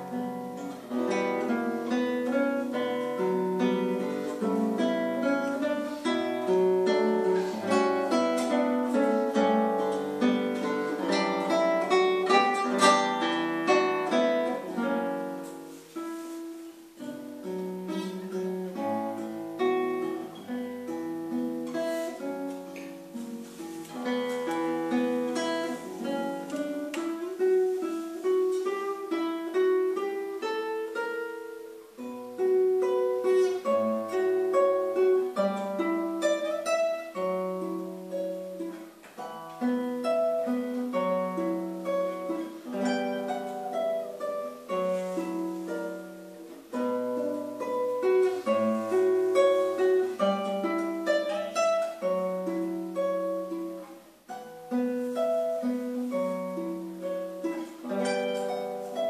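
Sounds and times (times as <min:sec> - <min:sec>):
classical guitar fingerpicked: 0:00.0 - 0:59.0.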